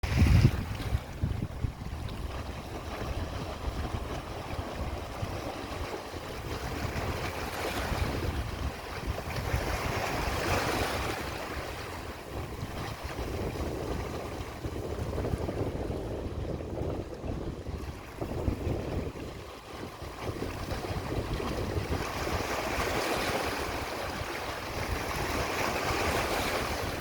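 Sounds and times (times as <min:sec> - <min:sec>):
sea waves washing on shore: 0:00.0 - 0:27.0
wind buffeting microphone: 0:00.0 - 0:27.0.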